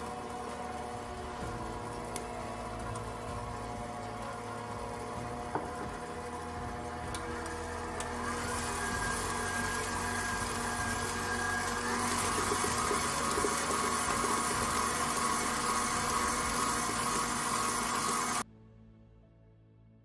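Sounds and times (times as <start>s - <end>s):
stand mixer motor whirring: 0.0s - 18.4s
whisk beating batter in steel bowl: 0.0s - 18.4s.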